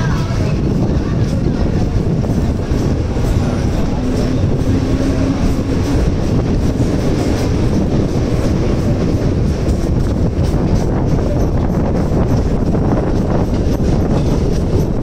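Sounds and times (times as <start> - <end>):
train wheels rumbling on rails: 0.0 - 15.0
wind: 0.0 - 15.0.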